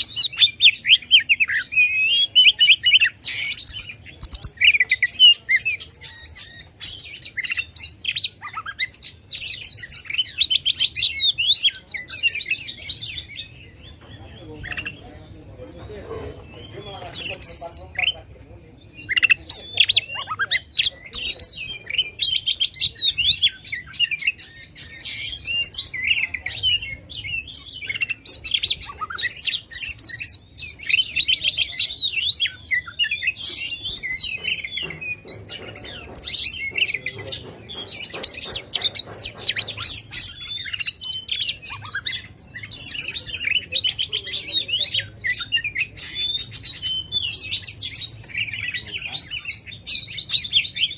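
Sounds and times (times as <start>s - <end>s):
bird singing rapid varied song: 0.0s - 50.9s.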